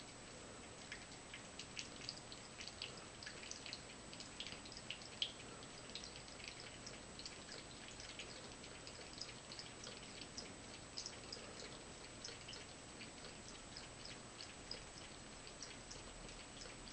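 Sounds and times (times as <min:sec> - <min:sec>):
cat licking: 0:00.6 - 0:16.9.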